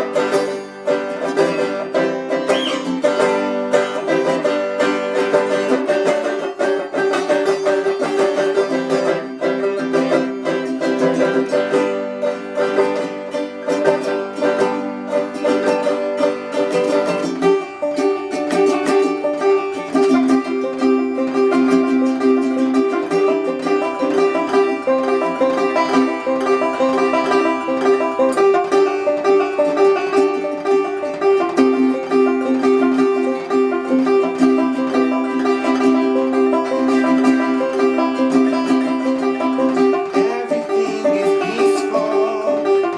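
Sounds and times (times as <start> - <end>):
fast plucked-string picking: 0.0 - 42.9.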